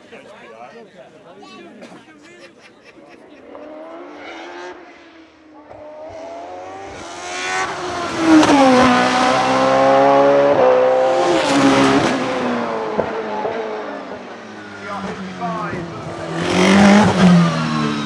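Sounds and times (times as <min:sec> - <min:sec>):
racing car engine passing: 0:03.4 - 0:18.0.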